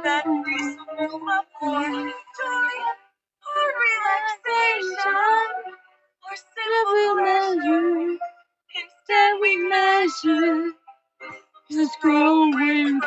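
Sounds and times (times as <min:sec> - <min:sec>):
woman singing unaccompanied: 0:00.0 - 0:05.6, 0:06.2 - 0:08.2, 0:08.8 - 0:10.8, 0:11.7 - 0:13.0.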